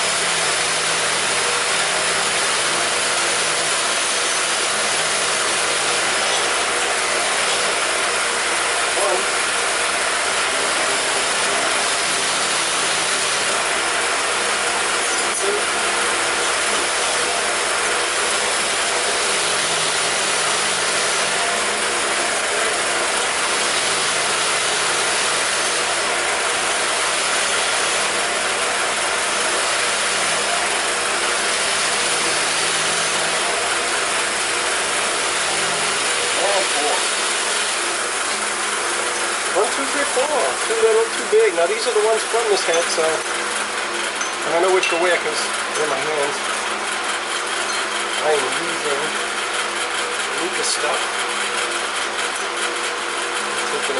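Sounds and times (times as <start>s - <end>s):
power wire brush grinding: 0.0s - 53.9s.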